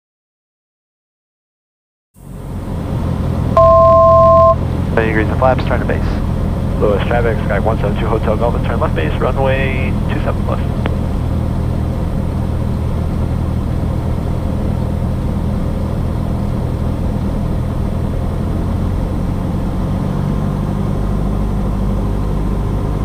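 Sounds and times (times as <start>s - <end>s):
airplane engine and propeller droning: 2.2s - 23.0s.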